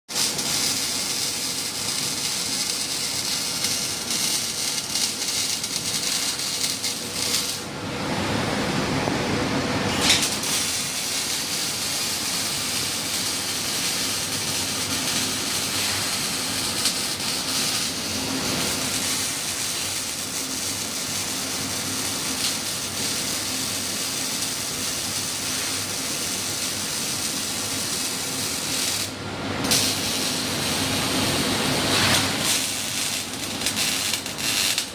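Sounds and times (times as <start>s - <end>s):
welding arc crackling hiss: 0.1s - 7.7s, 9.9s - 34.9s.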